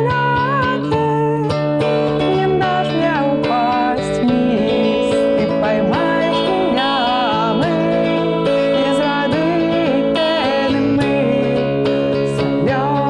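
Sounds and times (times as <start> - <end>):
guitar: 0.0 - 13.0
woman singing: 0.0 - 13.0.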